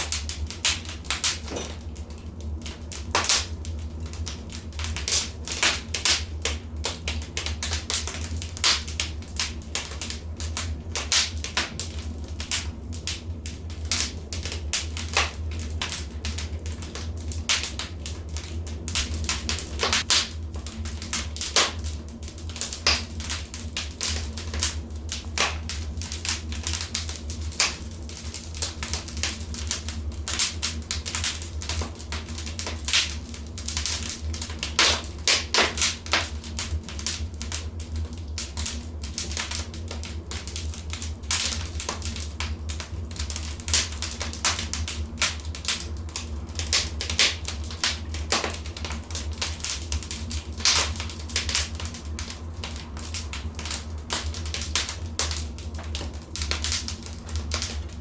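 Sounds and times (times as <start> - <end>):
low rumble of fire: 0.0 - 58.0
wood fire crackling: 0.0 - 58.0.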